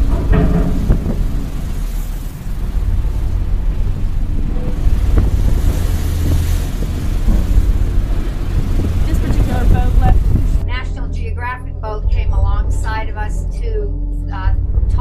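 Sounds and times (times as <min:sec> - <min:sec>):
storm wind: 0:00.0 - 0:13.6
heavy seas: 0:00.0 - 0:15.0
ship engine and hull noise: 0:00.0 - 0:15.0.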